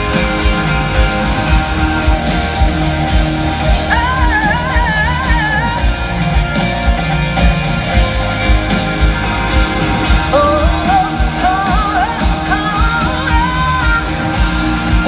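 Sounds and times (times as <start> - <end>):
live rock band playing: 0.0 - 15.0
steady drum beat: 0.0 - 15.0.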